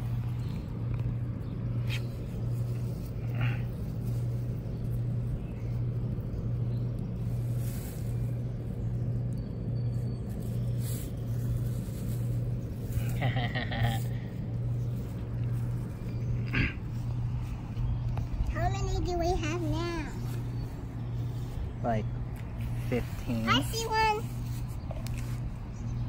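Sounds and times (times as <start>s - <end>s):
hands rustling through grass: 0.0s - 18.4s, 19.6s - 26.0s
pulsing mechanical hum: 0.0s - 26.0s.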